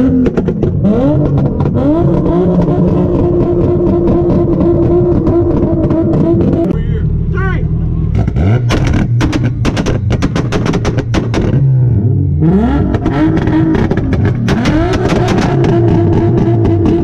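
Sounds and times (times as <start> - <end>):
exhaust popping and banging: 0.0 - 6.8, 8.1 - 17.0
car engine revving at limiter: 0.0 - 17.0.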